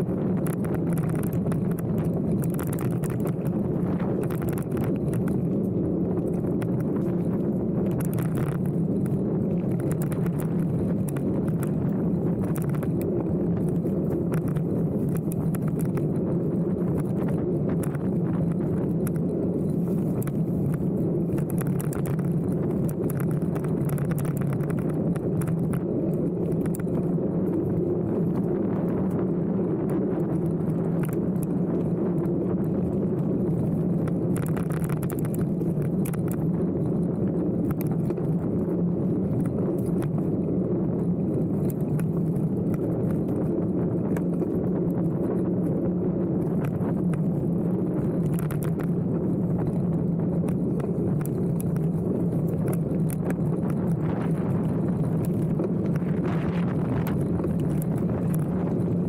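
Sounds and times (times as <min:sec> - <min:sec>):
bike tyres rumbling on gravel: 0:00.0 - 0:59.0.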